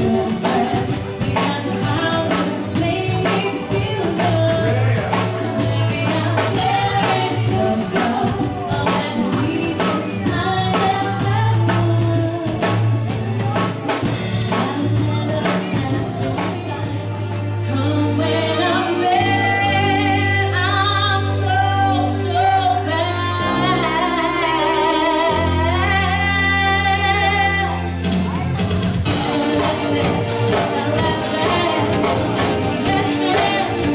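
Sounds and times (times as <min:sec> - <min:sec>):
bass line: 0:00.0 - 0:33.9
live dance band playing: 0:00.0 - 0:33.9
person singing: 0:00.0 - 0:33.9.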